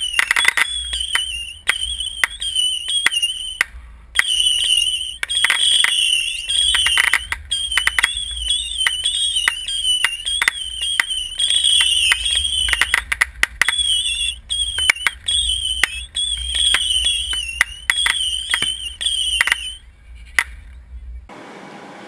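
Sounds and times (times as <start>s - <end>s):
fireworks crackling pops: 0.0s - 19.8s
fireworks whistling: 0.0s - 19.9s.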